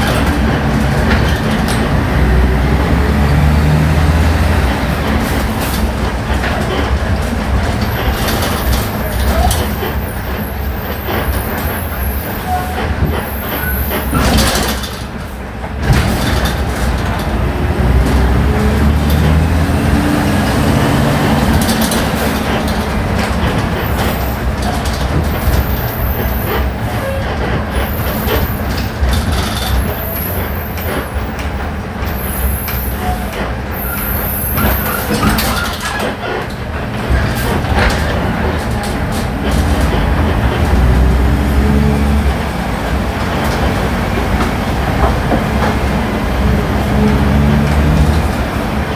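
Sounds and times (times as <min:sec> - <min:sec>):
bus engine rumbling: 0:00.0 - 0:48.9.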